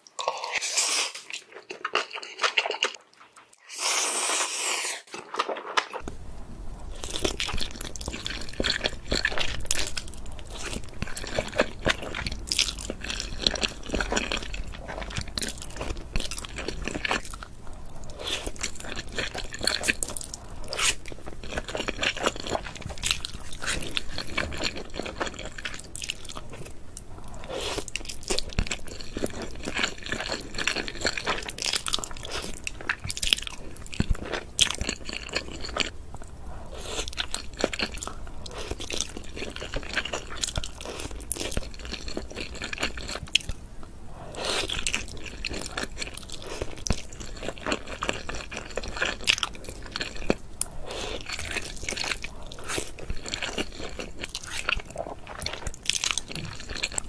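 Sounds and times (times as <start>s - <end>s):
slurping and wet chewing: 0.1s - 6.0s, 6.9s - 35.9s, 36.6s - 43.6s, 44.3s - 57.0s.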